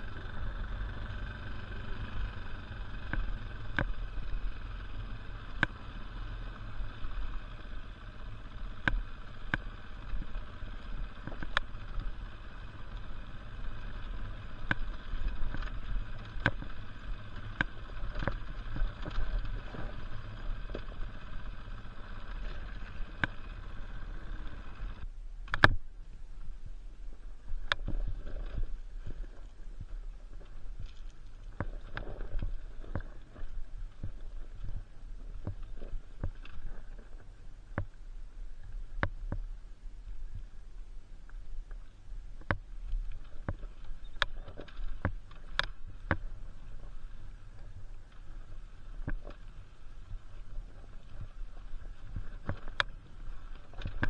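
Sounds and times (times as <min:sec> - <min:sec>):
motorcycle engine running at low speed: 0:00.0 - 0:54.0.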